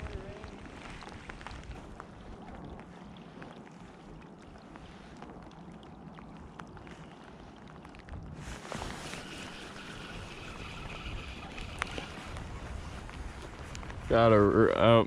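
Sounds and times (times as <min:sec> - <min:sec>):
water noise: 0:00.0 - 0:15.0
wind rumbling on microphone: 0:00.0 - 0:15.0.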